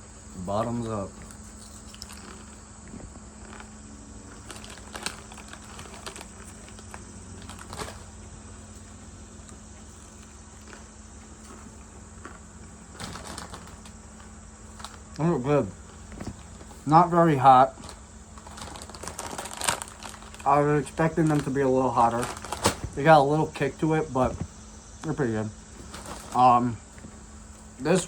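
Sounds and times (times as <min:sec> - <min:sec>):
low electrical hum: 0:00.0 - 0:28.0
crunchy chips being chewed: 0:00.4 - 0:23.0.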